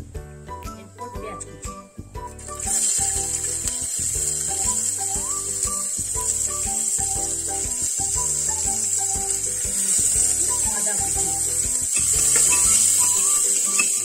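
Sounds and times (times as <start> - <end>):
instrumental music: 0.0 - 14.0
onion sizzling in hot oil: 2.3 - 14.0.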